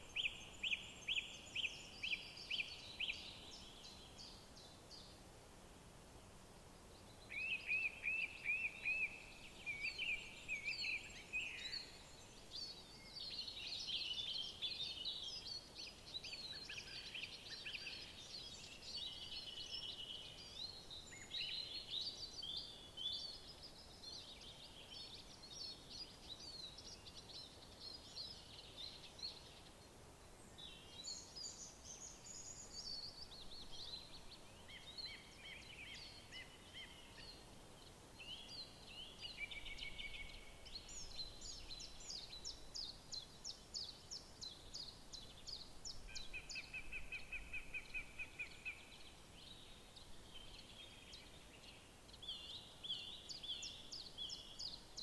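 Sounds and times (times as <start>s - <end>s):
faint background hiss: 0.0s - 55.0s
songbirds chirping and trilling: 6.8s - 55.0s.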